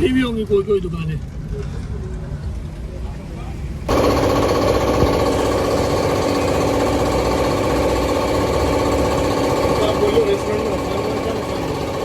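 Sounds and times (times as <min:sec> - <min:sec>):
engine idling with faint rattle: 0:01.0 - 0:12.0.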